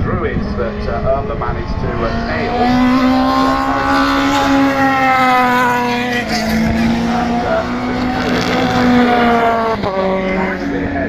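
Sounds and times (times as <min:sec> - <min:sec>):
racing car engines passing by: 0:00.0 - 0:11.0.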